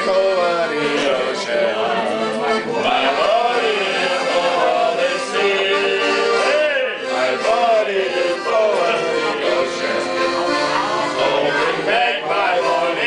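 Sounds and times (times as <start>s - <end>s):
man singing: 0.0s - 10.2s, 11.2s - 13.0s
piano accordion playing a tune: 0.0s - 13.0s.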